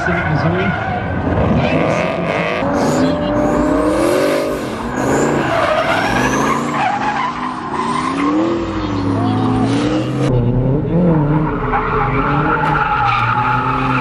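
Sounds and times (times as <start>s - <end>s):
car engines revving hard: 0.0s - 14.0s
tyres skidding and squealing: 0.0s - 14.0s.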